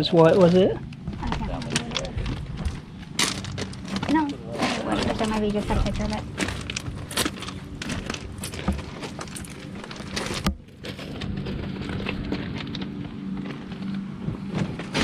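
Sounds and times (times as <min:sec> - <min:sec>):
footsteps crunching on gravel: 0:00.0 - 0:15.0
low steady hum: 0:00.0 - 0:15.0.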